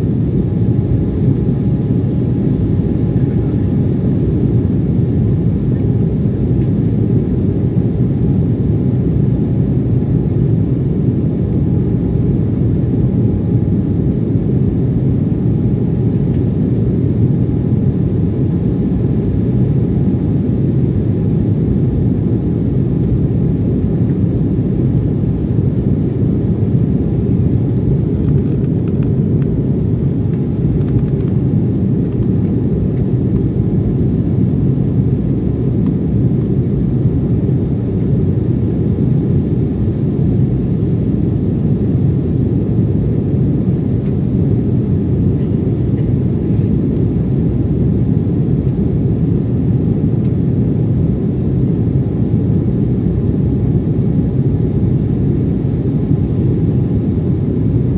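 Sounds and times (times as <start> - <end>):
airliner cabin engine rumble: 0.0 - 57.9.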